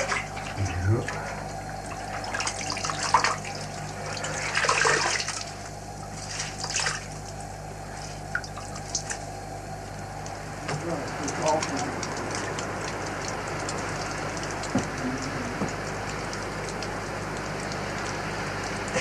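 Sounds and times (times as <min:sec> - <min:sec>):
steady low hum: 0:00.0 - 0:19.0
water splashing in a washbasin: 0:00.0 - 0:19.0.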